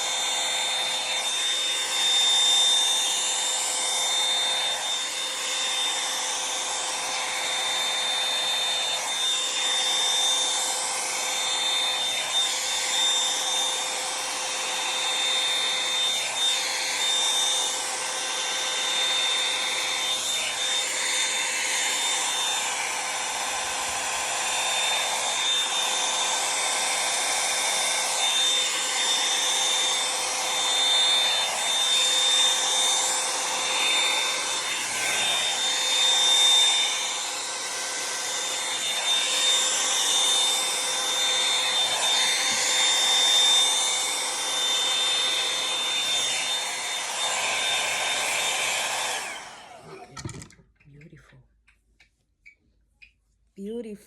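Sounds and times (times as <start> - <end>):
hot air brush dryer blowing: 0.0 - 50.6.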